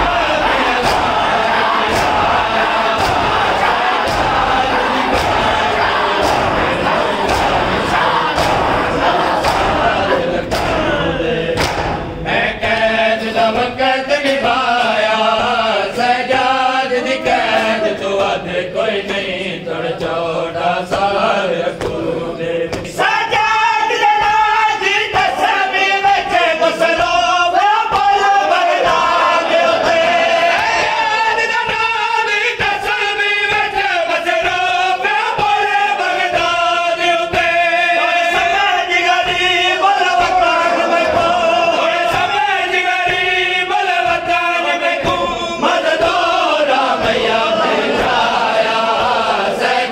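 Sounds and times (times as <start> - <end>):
crowd chanting: 0.0 - 49.9.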